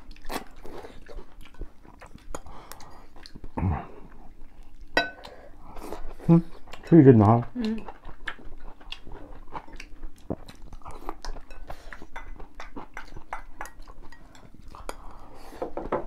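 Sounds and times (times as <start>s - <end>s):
chewing: 0.0s - 15.5s.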